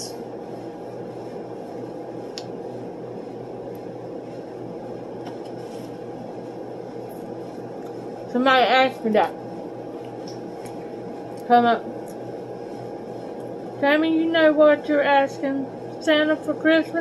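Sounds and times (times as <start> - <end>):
fans and ventilation hum: 0.0 - 17.0.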